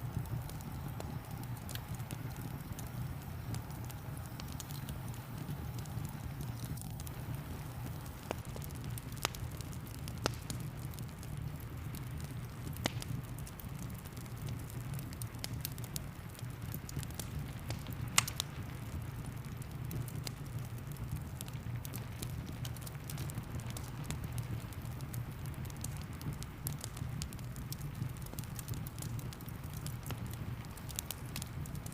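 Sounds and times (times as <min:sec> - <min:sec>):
fire crackling and popping: 0:00.0 - 0:31.9
rain pattering: 0:00.0 - 0:31.9.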